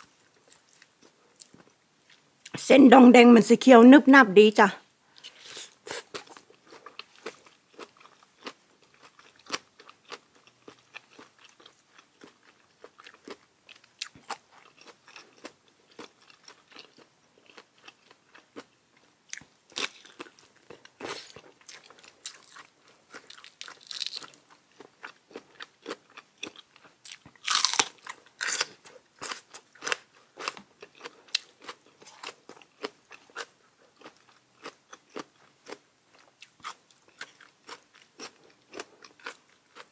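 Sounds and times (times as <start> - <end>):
chewing and crunching food: 0.0 - 2.5, 5.1 - 39.9.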